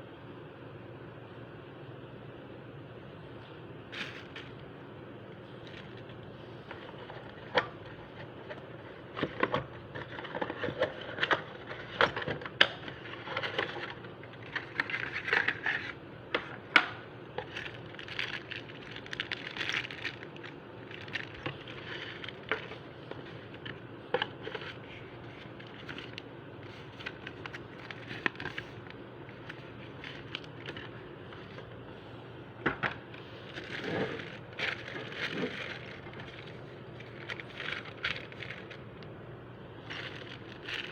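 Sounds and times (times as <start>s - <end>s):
packaging rustling and crinkling: 3.9s - 4.7s, 5.4s - 16.0s, 17.3s - 31.9s, 33.1s - 40.9s.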